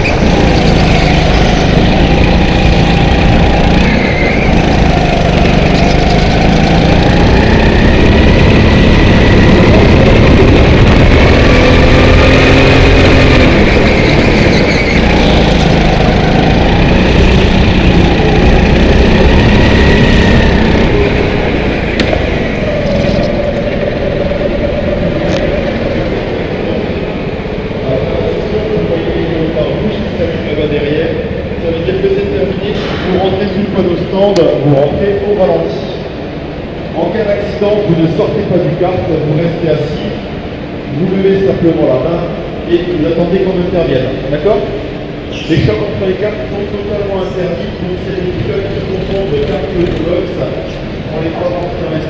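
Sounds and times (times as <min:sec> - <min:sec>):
go-kart engine: 0:00.0 - 0:52.0.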